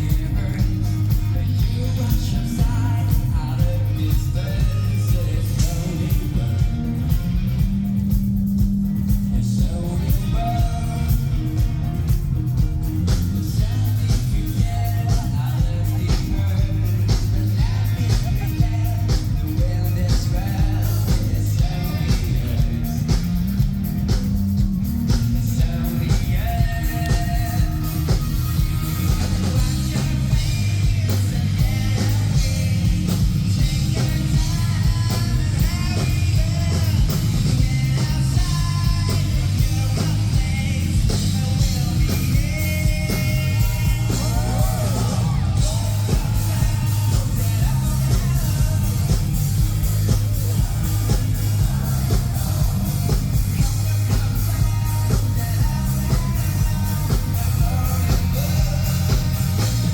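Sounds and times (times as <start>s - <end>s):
person singing: 0.0s - 7.2s, 9.3s - 12.2s, 13.0s - 23.5s, 24.1s - 59.9s
drums: 0.0s - 59.9s
guitar: 0.0s - 59.9s
heavy bass line: 0.0s - 59.9s.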